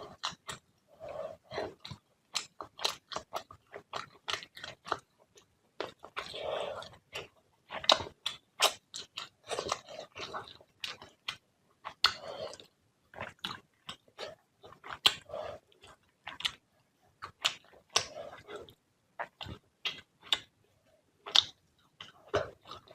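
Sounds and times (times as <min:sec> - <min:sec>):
wet chewing and lip smacks: 0:01.4 - 0:16.6, 0:17.2 - 0:20.5, 0:21.2 - 0:22.9.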